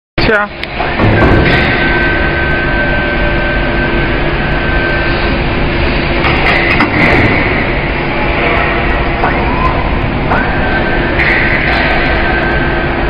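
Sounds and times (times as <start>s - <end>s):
electric stacker whine: 0.2s - 13.0s
mechanical rumble: 0.2s - 13.0s.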